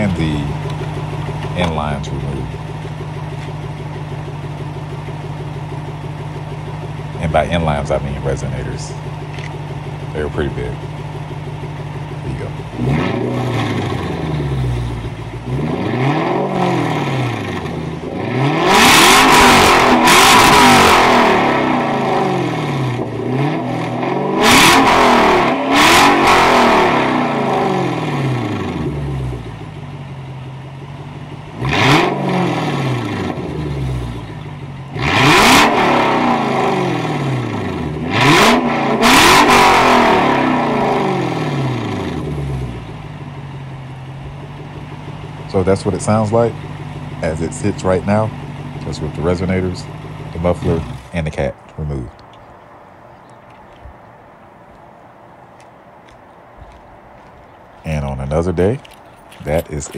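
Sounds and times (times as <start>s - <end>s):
car engine revving loudly: 0.0s - 52.1s.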